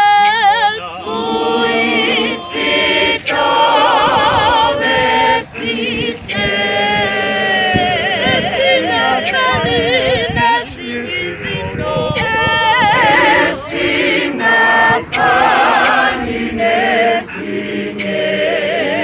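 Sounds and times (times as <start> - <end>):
women's choir singing a cappella: 0.0 - 19.0.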